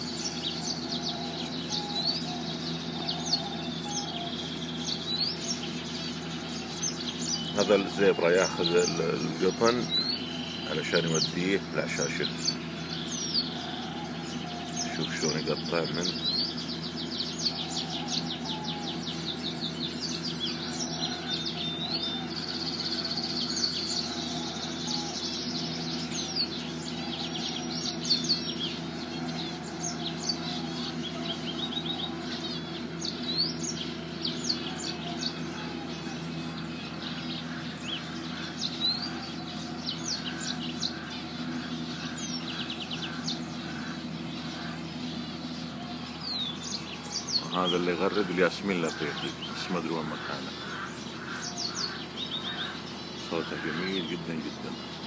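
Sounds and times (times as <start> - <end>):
finches chirping: 0.0 - 55.0
steady low hum: 0.0 - 55.0.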